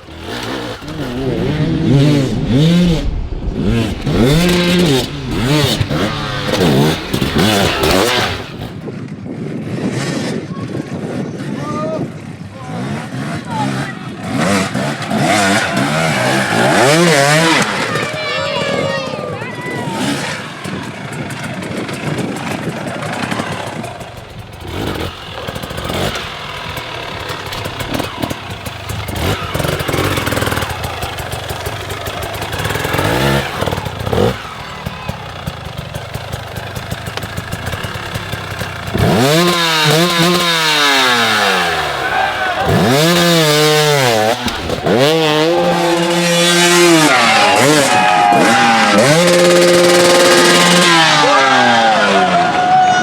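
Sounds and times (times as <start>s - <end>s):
dirt bike engine revving: 0.0s - 8.9s, 9.7s - 53.0s.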